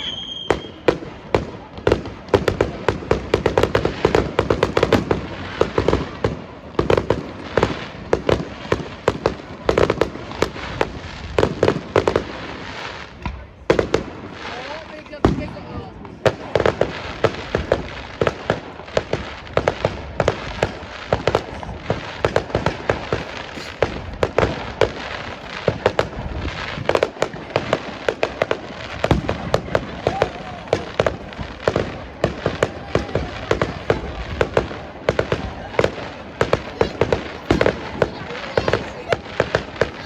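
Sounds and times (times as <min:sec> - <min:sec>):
fireworks bangs and crackling: 0:00.0 - 0:40.0.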